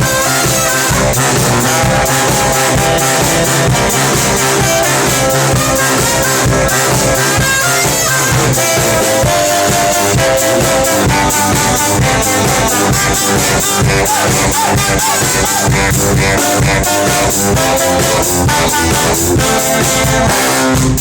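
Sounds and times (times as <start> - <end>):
brass horns playing melody: 0.0 - 21.0
drum beat: 0.0 - 21.0.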